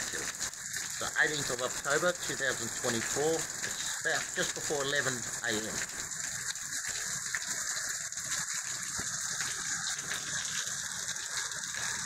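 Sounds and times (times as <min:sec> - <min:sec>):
heavy rain on paving and foliage: 0:00.0 - 0:12.0.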